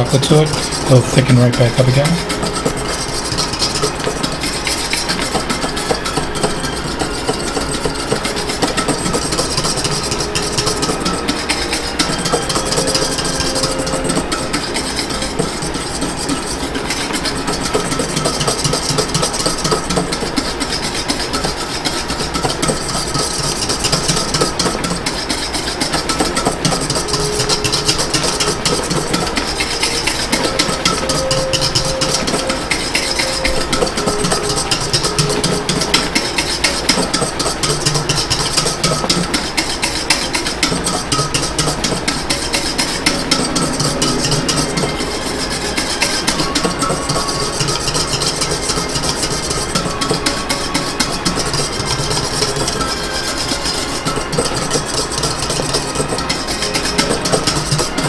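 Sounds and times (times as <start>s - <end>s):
whisk clicking against metal bowl: 0.0s - 58.0s.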